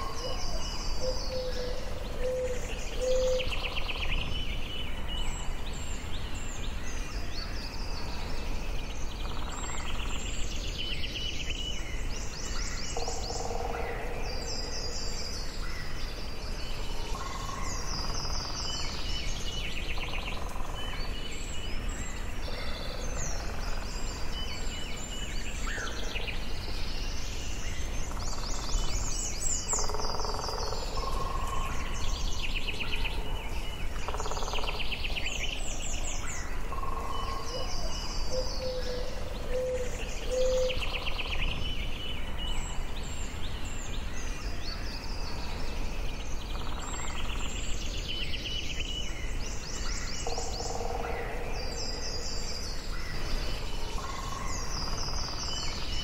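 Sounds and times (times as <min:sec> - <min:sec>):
birds singing and calling: 0:00.0 - 0:56.0.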